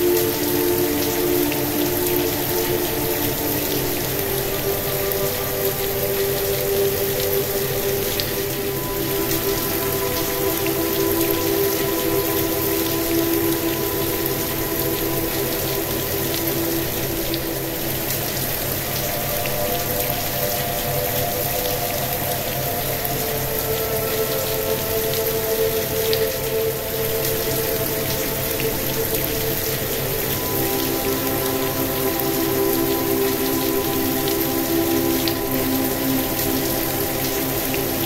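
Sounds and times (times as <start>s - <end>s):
soft sustained music drone: 0.0s - 38.0s
steady rain hiss: 0.0s - 38.0s.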